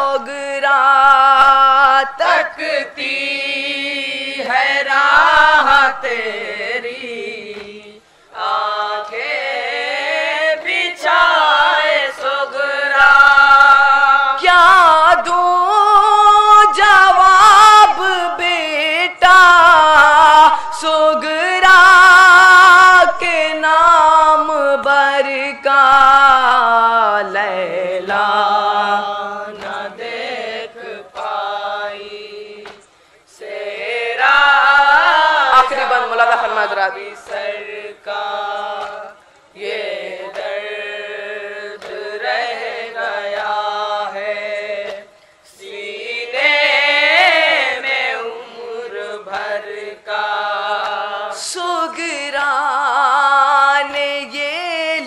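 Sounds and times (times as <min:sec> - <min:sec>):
solo voice singing a lament: 0:00.0 - 0:55.0.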